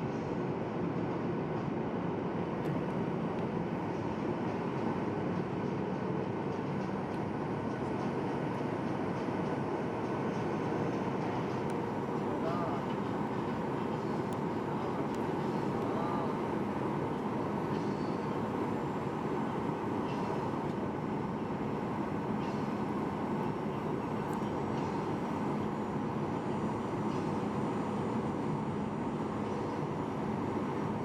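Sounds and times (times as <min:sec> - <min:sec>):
airliner cabin engine roar: 0:00.0 - 0:31.0.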